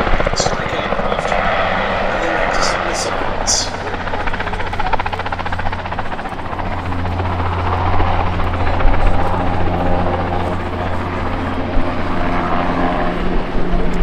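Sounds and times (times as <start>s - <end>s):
helicopter engine whine: 0.0s - 14.0s
helicopter rotor beating: 0.0s - 14.0s.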